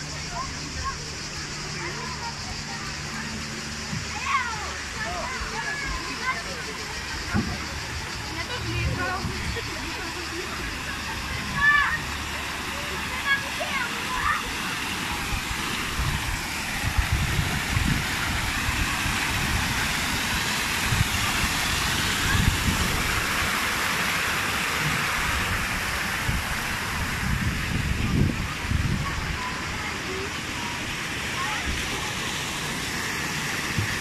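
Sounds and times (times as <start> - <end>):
waterfall pouring into pool: 0.0 - 34.0.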